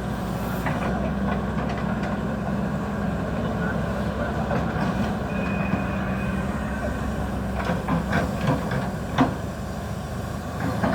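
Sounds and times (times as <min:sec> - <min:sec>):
excavator diesel engine running: 0:00.0 - 0:10.9.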